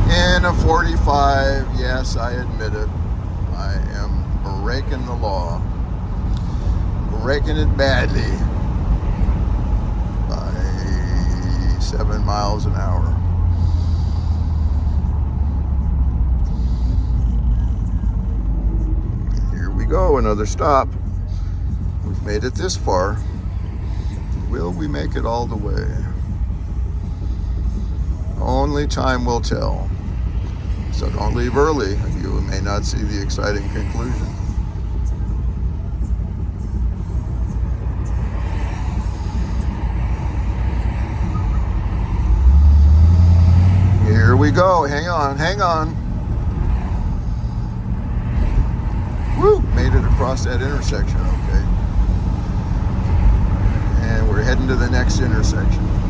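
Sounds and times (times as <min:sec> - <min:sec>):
car engine rumble in cabin: 0:00.0 - 0:56.0.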